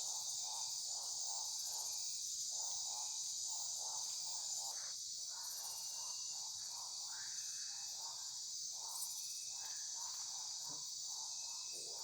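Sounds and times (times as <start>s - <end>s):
low pulsing insect call: 0.0s - 12.0s.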